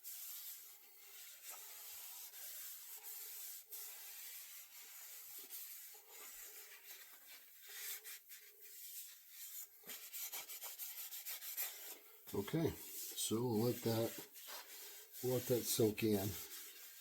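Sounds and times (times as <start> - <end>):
cloth rubbing wood: 0.0 - 17.0.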